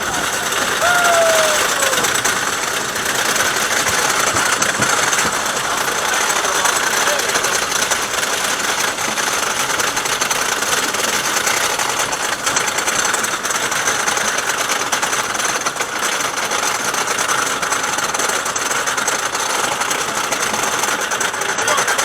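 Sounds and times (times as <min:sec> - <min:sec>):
roller coaster train clattering: 0:00.0 - 0:22.0.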